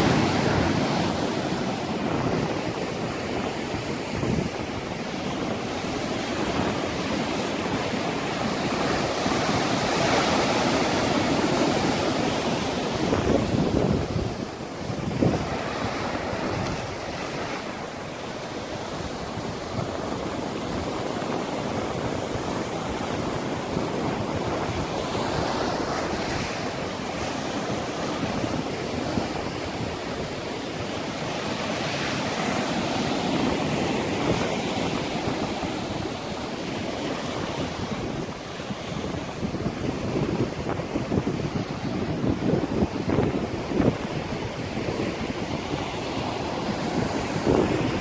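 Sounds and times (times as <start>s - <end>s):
ocean surf breaking over rocks: 0.0s - 48.0s
wind buffeting microphone: 0.0s - 48.0s.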